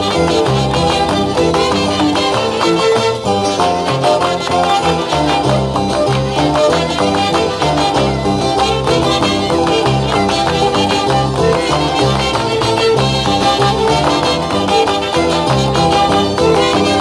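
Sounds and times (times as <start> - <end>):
folk band playing a melody: 0.0 - 17.0
rhythmic bass line: 0.0 - 17.0.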